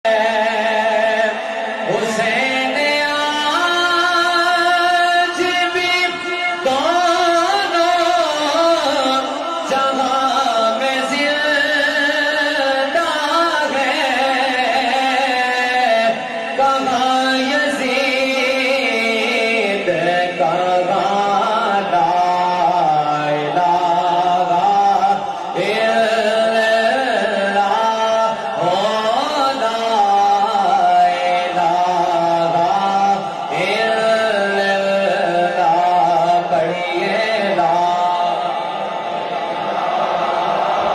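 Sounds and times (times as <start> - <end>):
person singing chant-like melody: 0.0 - 38.6.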